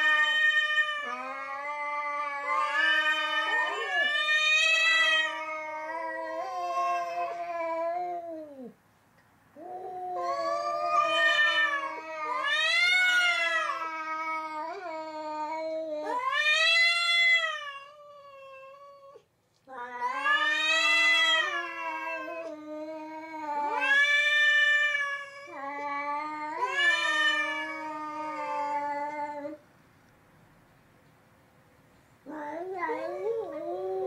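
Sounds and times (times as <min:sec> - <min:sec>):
cats yowling: 0:00.0 - 0:08.8, 0:09.6 - 0:29.6, 0:32.2 - 0:34.0.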